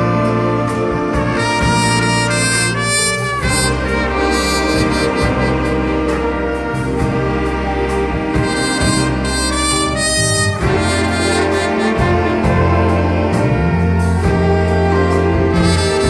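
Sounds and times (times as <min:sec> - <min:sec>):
wind orchestra playing: 0:00.0 - 0:16.0.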